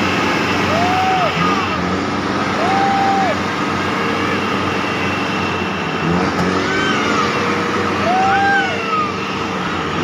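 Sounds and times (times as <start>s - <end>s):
vehicle engine whining under load: 0.0s - 10.0s.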